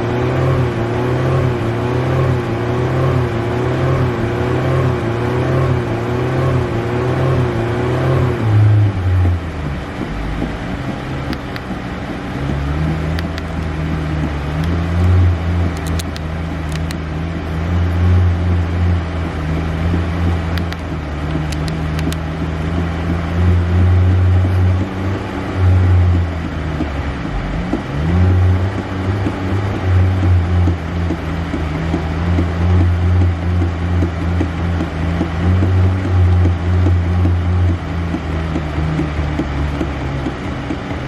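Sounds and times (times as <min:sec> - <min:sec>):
car engine droning: 0:00.0 - 0:41.0.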